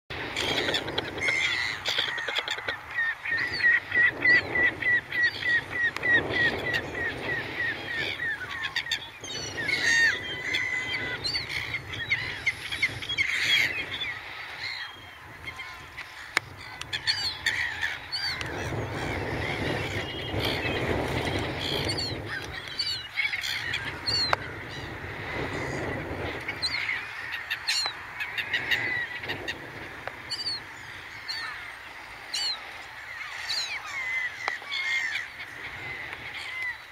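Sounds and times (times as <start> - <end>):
gulls calling: 0.1 - 36.9.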